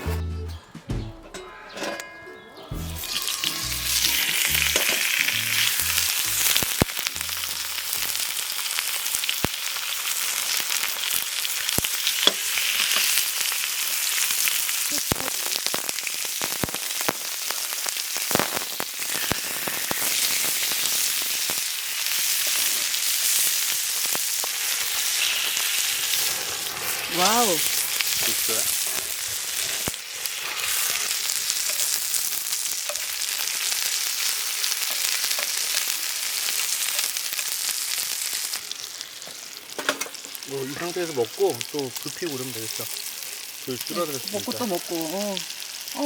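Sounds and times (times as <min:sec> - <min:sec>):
meat sizzling in frying pan: 0:02.8 - 0:46.0.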